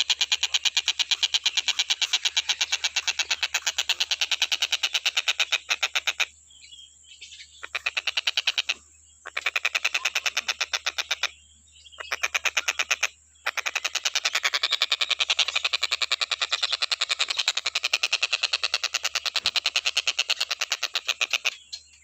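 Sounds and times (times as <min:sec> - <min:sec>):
kingfisher rattling call: 0:00.0 - 0:06.3, 0:07.6 - 0:11.4, 0:12.0 - 0:21.8.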